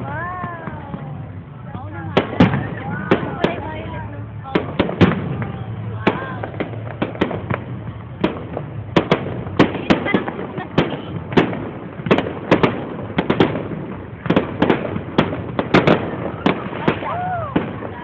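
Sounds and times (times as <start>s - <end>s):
fireworks banging: 0.0s - 18.0s
fireworks crackling: 0.0s - 18.0s.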